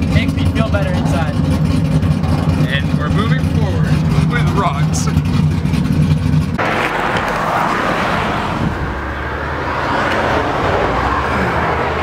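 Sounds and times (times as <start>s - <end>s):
car engine humming: 0.0s - 12.0s
road and traffic noise: 0.0s - 12.0s.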